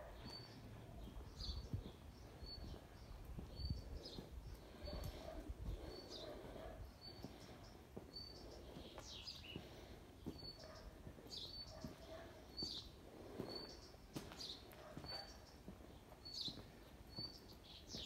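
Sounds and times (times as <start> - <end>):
birds chirping: 0.0 - 18.0
faint outdoor background noise: 0.0 - 18.0
soft footsteps on pavement: 0.0 - 18.0.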